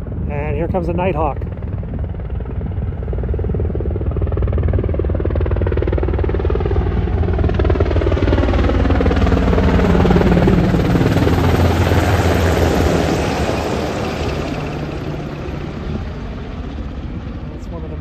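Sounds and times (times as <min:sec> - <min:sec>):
helicopter rotor chop and whine: 0:00.0 - 0:18.0.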